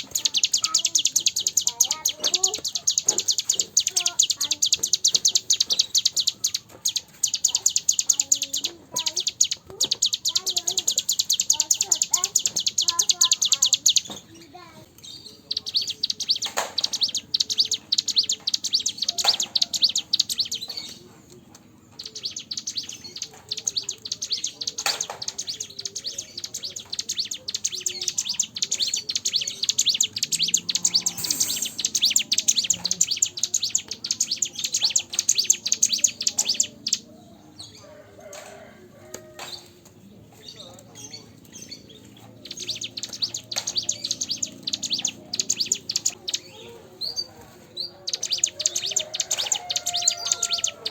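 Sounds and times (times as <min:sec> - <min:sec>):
bird singing rapid chattering trills: 0:00.0 - 0:50.9.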